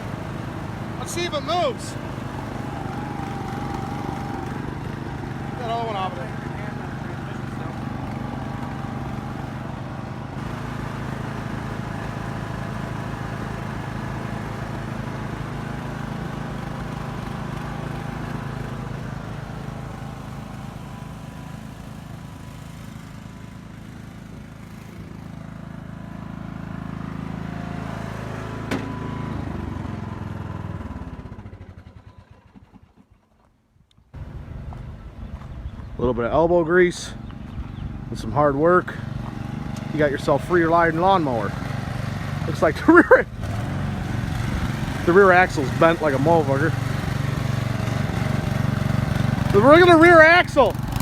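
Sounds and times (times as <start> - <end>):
riding lawn mower engine: 0.0 - 51.0.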